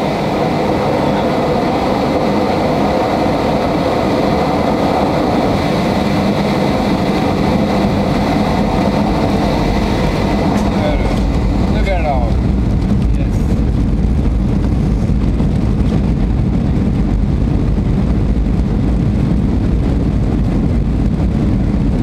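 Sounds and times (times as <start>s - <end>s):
continuous cabin rumble: 0.0s - 22.0s
jet engines running at low power: 0.0s - 22.0s.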